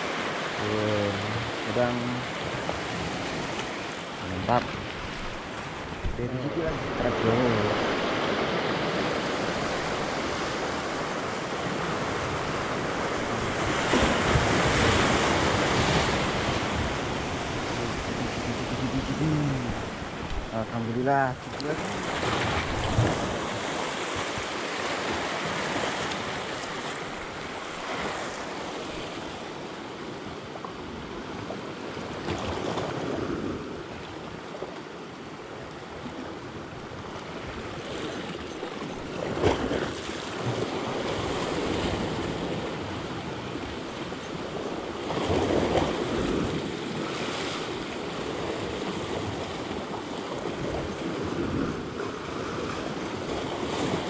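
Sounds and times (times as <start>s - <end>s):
waves washing against rocks: 0.0s - 34.5s, 35.4s - 54.0s.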